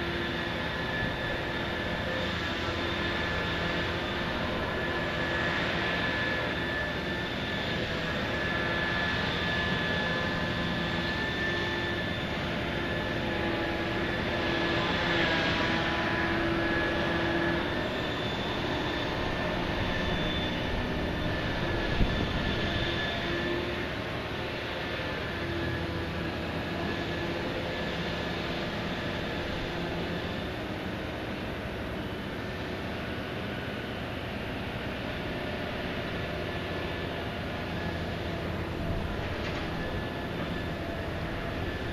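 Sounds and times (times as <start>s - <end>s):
dredger machinery whine and rumble: 0.0s - 41.9s.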